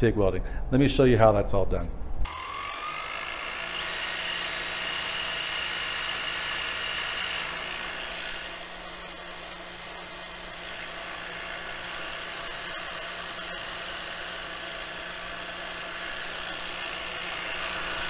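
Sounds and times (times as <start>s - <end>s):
cordless drill whining: 2.3s - 18.0s
grinder motor hum: 2.3s - 18.0s
grinding hiss: 3.0s - 18.0s.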